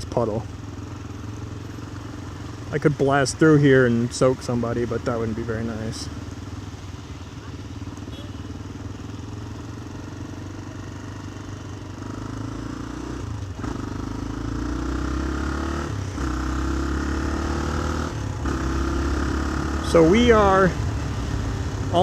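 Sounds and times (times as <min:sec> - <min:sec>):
motorcycle engine accelerating: 0:00.2 - 0:22.0.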